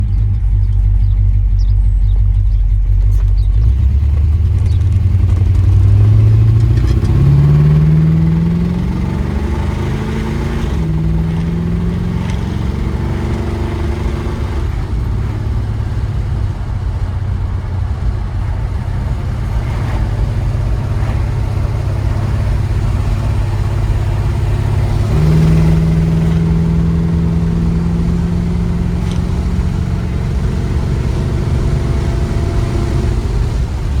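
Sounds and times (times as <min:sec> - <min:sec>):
car engine accelerating: 0:00.0 - 0:34.0
road noise inside car: 0:00.0 - 0:34.0.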